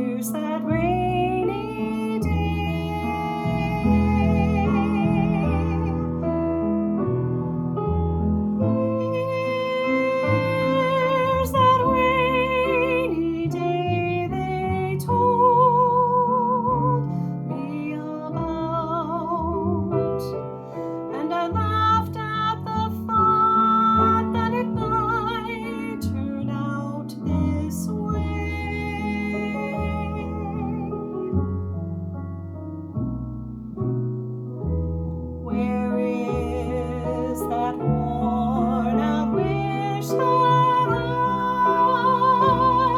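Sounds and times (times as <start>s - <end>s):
soprano singing with vibrato: 0.0s - 6.5s, 8.6s - 20.3s, 21.2s - 31.3s, 35.5s - 42.9s
piano accompaniment: 0.0s - 42.9s.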